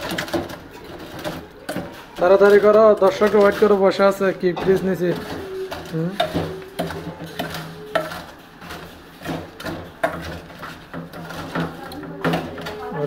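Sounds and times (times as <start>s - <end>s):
metal tumbler pounding in steel bowl: 0.0s - 13.0s.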